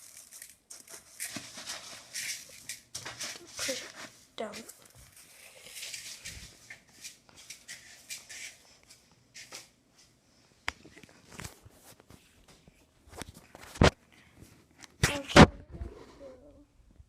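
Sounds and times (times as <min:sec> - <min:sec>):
faint handling and rustling: 0:00.0 - 0:16.6.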